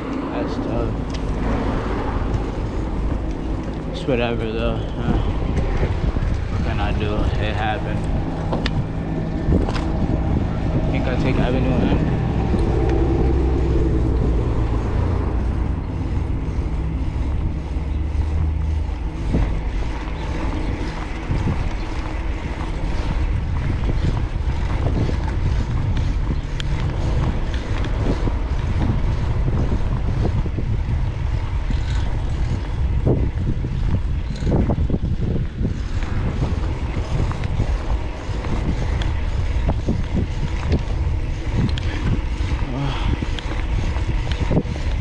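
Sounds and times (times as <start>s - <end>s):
low hum: 0.0s - 45.0s
wind buffeting microphone: 0.0s - 45.0s.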